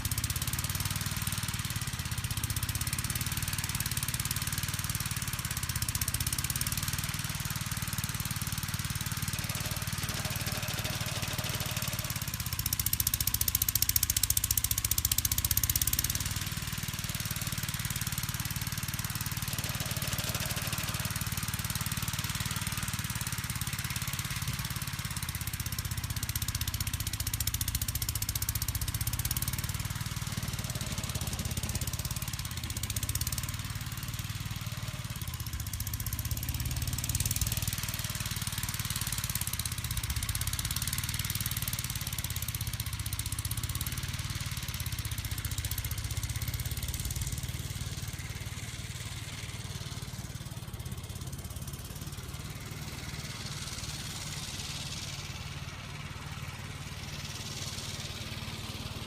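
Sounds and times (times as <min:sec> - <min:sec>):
tractor engine running: 0:00.0 - 0:59.0
snow blower hiss: 0:06.5 - 0:59.0.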